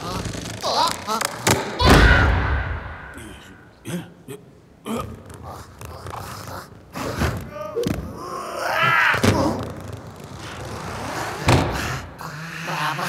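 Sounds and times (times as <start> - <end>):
high-pitched vocal noises: 0.0 - 9.8, 11.6 - 13.0.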